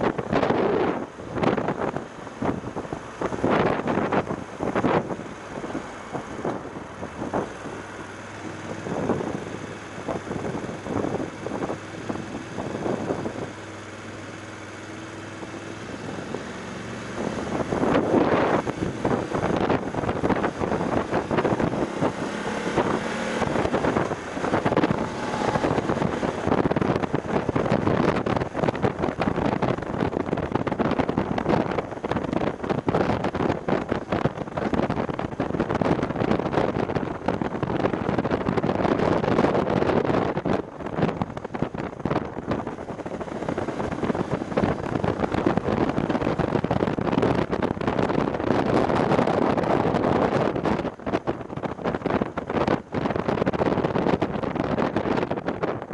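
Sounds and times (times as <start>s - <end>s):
motorcycle engine running: 0.0s - 55.9s
wind buffeting microphone: 0.0s - 55.9s.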